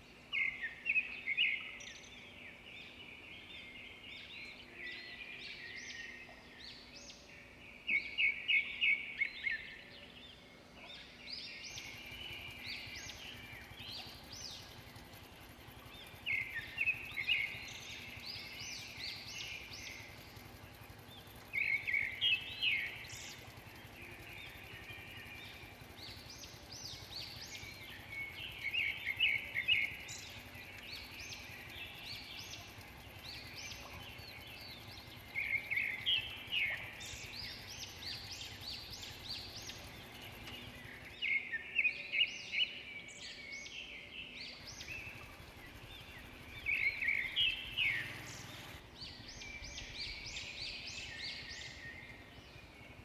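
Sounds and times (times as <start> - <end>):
faint background noise: 0.0 - 53.0
songbird singing: 0.0 - 53.0.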